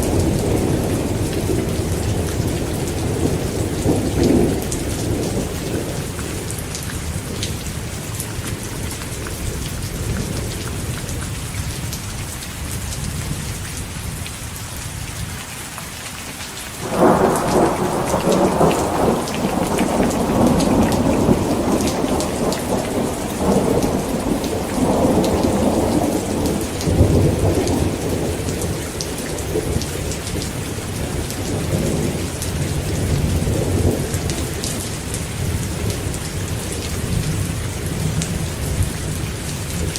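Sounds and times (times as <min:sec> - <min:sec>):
thunder crack and rumble: 0:00.0 - 0:11.0, 0:16.8 - 0:39.9
heavy rain falling: 0:00.0 - 0:39.9.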